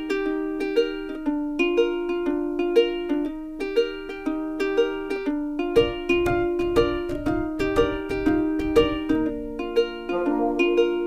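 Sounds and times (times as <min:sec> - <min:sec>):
plucked-string instrumental music: 0:00.0 - 0:11.0.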